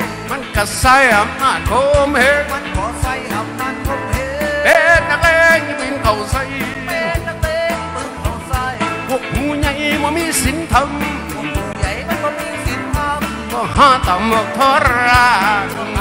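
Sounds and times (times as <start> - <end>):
bass line: 0.0 - 16.0.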